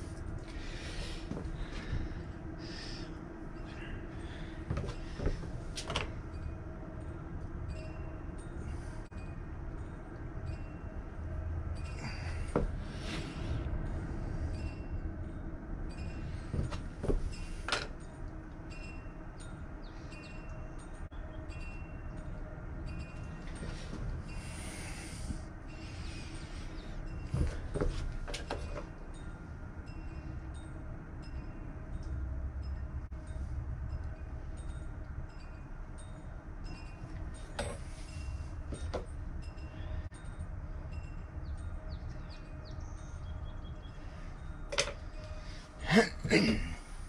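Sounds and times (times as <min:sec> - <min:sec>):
low outdoor rumble: 0:00.0 - 0:47.0.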